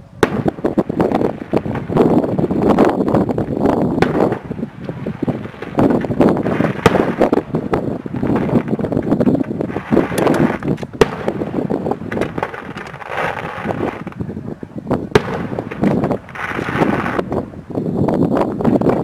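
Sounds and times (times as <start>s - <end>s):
fireworks crackling bangs: 0.0s - 19.0s
loud firework reports: 0.0s - 19.0s.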